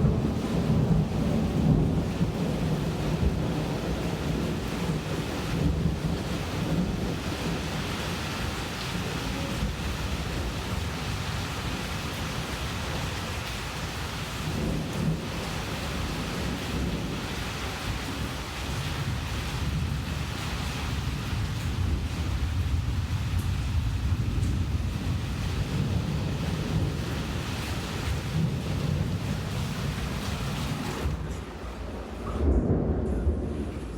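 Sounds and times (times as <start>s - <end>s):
low rumble of thunder: 0.0s - 33.9s
steady rain falling: 0.0s - 33.9s.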